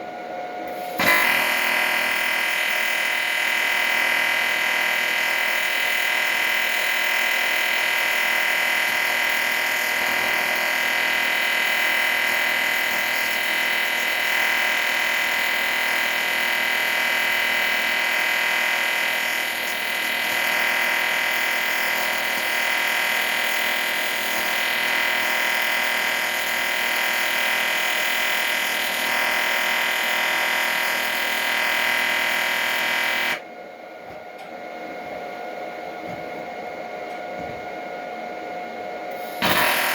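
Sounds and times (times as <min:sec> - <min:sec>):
machine hissing and whining: 0:00.0 - 0:33.4, 0:39.1 - 0:39.9.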